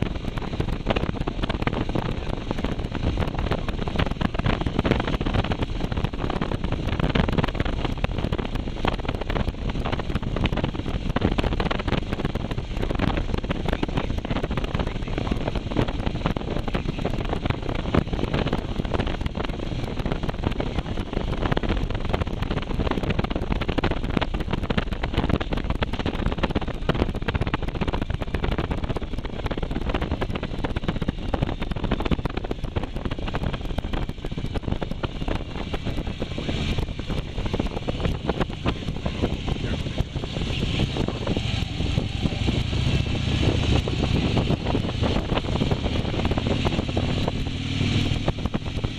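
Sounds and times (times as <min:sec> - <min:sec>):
motorcycle engine: 0:00.0 - 0:48.9
wind buffeting microphone: 0:00.0 - 0:48.9.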